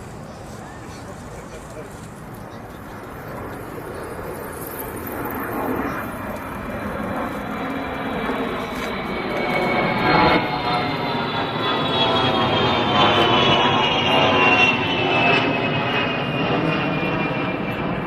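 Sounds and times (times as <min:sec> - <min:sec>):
aircraft engine whine: 0:00.0 - 0:18.0.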